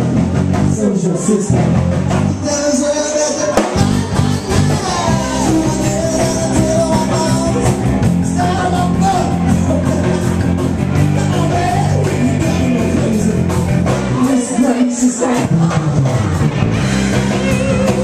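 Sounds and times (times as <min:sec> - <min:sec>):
bass guitar: 0:00.0 - 0:18.0
drums: 0:00.0 - 0:18.0
electric guitar: 0:00.0 - 0:18.0
man singing into microphone: 0:00.7 - 0:10.4, 0:11.0 - 0:16.4.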